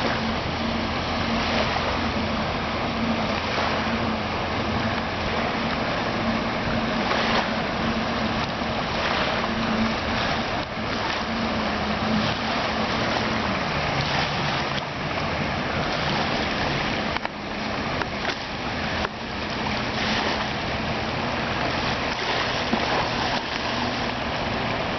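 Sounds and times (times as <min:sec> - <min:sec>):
boat engine running: 0:00.0 - 0:24.9
lapping water: 0:00.0 - 0:24.9
wind: 0:00.0 - 0:24.9.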